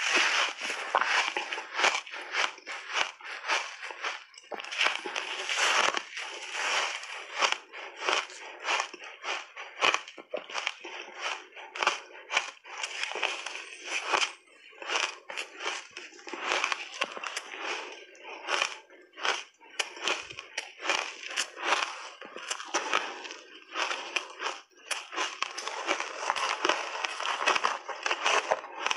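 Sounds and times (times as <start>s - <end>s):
shaved ice being chewed: 0.0s - 28.9s.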